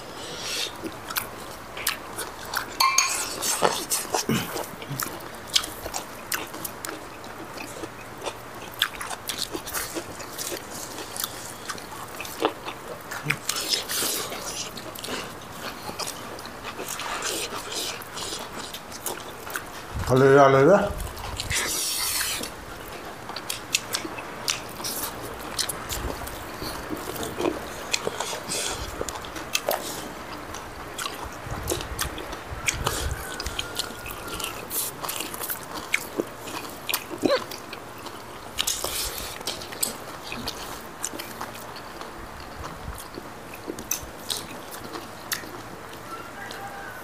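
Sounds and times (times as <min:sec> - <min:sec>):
people chewing food: 0:00.0 - 0:47.0.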